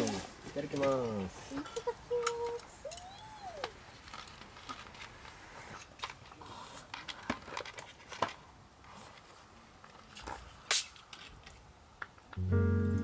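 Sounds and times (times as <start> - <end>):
small handling noises: 0.0 - 12.4.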